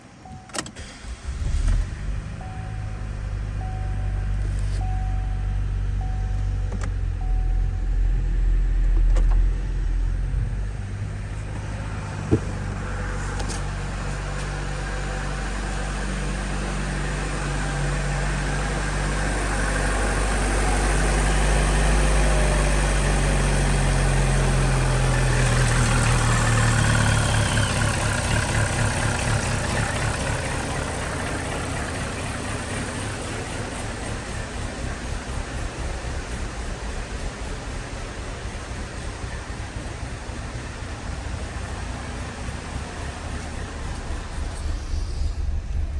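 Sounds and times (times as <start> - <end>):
car engine running: 0.0 - 45.9.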